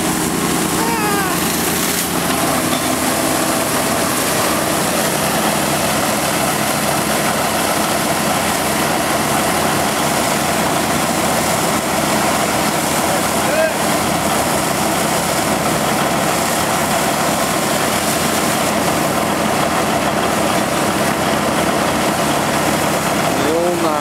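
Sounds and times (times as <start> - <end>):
engine running: 0.0 - 24.0
water jet spraying: 0.0 - 24.0.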